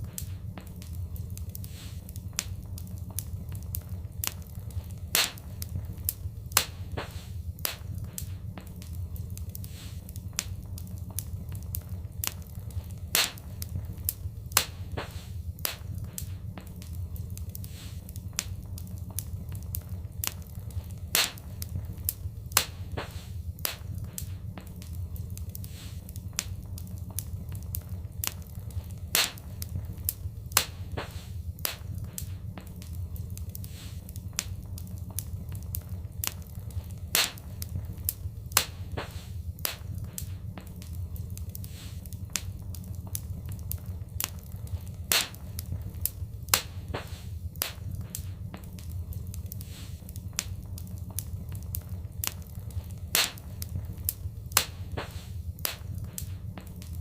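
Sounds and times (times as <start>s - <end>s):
fireplace fire crackling: 0.0s - 57.0s.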